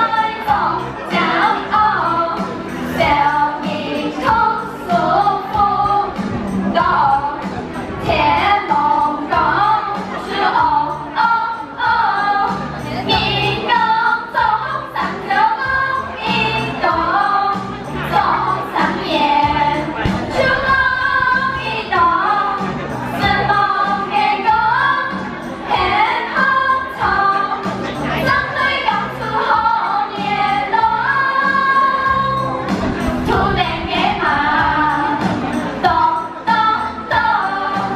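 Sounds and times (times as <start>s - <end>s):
children's song with accompaniment: 0.0s - 37.9s.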